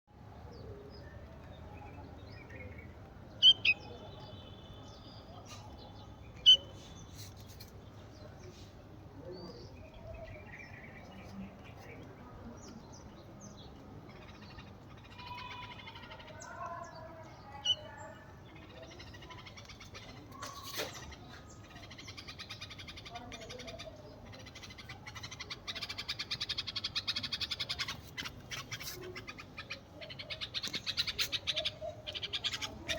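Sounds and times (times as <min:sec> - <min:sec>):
small birds chirping and chattering: 0:00.1 - 0:32.9.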